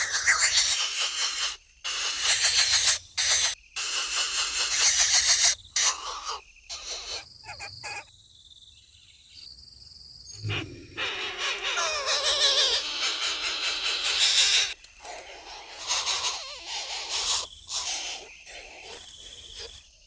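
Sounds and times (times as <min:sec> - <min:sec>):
bird chick hissing begging calls: 0:00.0 - 0:08.1, 0:10.4 - 0:19.8.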